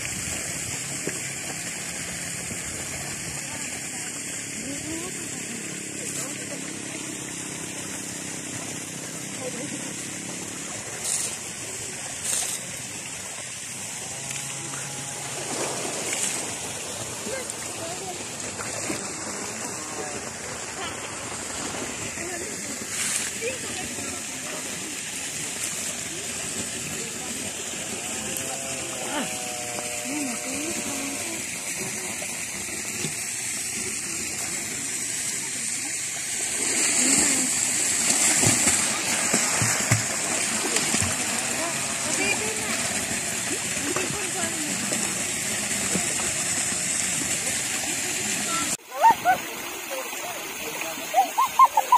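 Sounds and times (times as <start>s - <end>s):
pool water splashing: 0.0s - 51.9s
faint voices: 1.5s - 32.8s, 33.8s - 51.9s.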